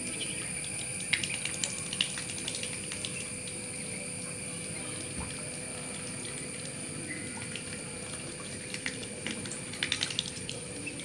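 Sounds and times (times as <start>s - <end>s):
ducklings splashing in puddle: 0.1s - 11.0s.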